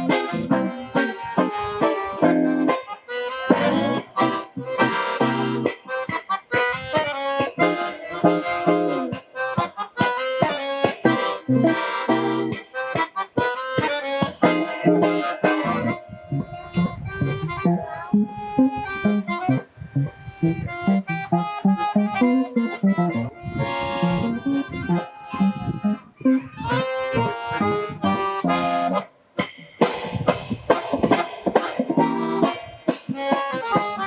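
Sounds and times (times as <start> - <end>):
accordion melody: 0.0 - 34.0
plucked guitar accompaniment: 0.0 - 34.0.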